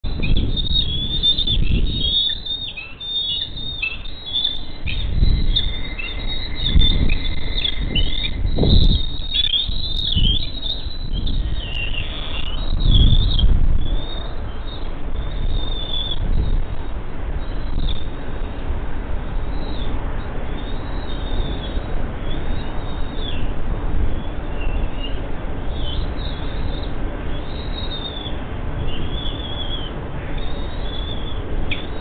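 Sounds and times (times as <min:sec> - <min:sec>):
low rumbles: 0:00.0 - 0:32.0
eaglets chirping: 0:00.1 - 0:16.8, 0:19.4 - 0:32.0.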